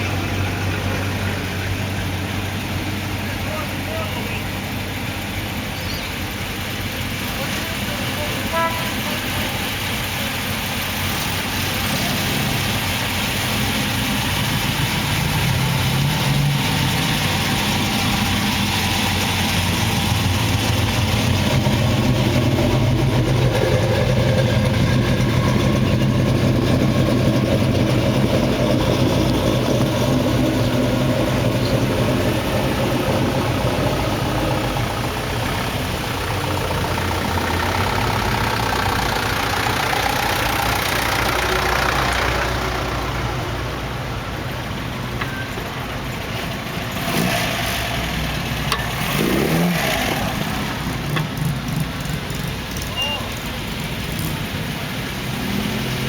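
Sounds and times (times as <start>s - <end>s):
car engines driving past: 0.0s - 56.0s.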